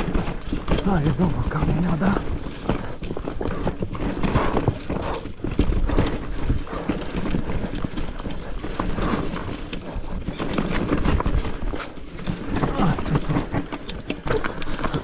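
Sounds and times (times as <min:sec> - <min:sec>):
mountain bike rattling over rocks: 0:00.0 - 0:15.0.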